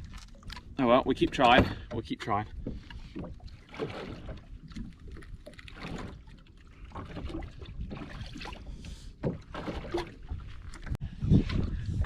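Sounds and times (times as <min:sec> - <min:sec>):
water slapping against boat hull: 0:00.0 - 0:11.8.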